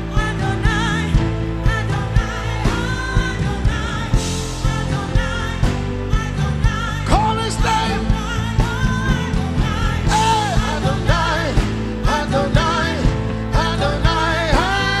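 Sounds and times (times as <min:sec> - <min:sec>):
band with steady drum beat: 0:00.0 - 0:15.0
voices singing slow melody: 0:00.0 - 0:15.0.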